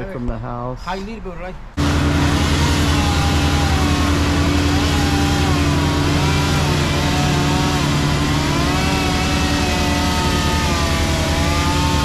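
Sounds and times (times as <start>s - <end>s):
large engine running: 1.8s - 12.0s.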